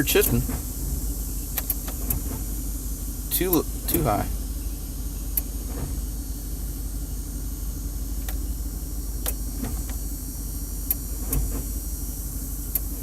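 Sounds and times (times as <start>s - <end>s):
engine idling from inside cab: 0.0s - 13.0s.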